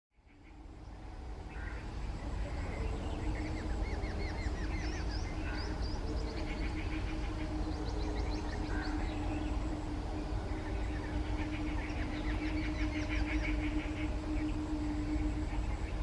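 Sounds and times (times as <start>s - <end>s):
faint steady hum: 0.2s - 16.0s.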